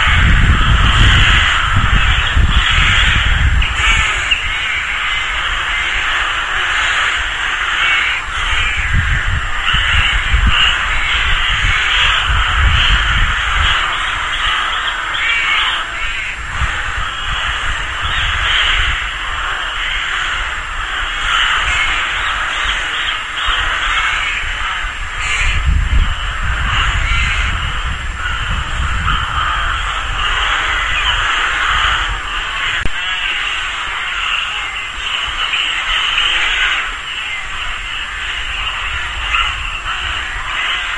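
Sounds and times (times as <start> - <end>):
rooks cawing: 0.0 - 40.9.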